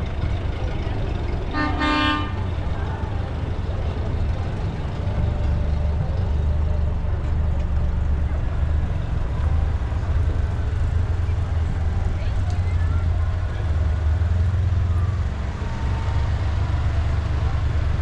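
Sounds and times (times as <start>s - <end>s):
vehicle engines rumbling past: 0.0s - 18.0s.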